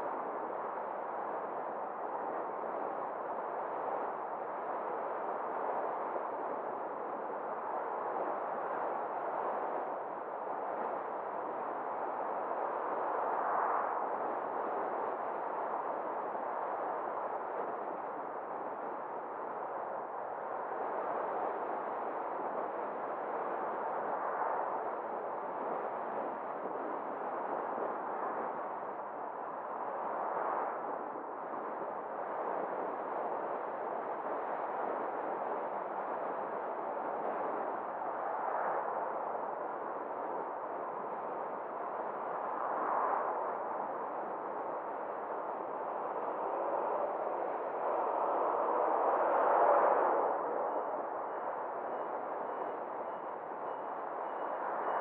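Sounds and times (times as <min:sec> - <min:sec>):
car road and wind noise: 0:00.0 - 0:55.0.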